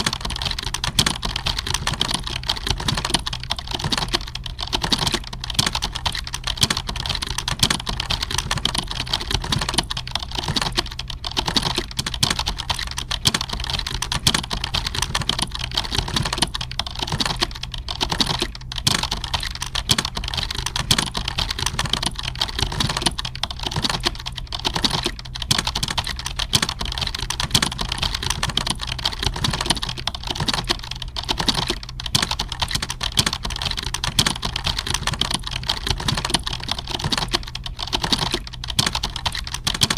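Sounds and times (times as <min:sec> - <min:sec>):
keyboard typing: 0:00.0 - 0:39.9
steady low hum: 0:00.0 - 0:39.9.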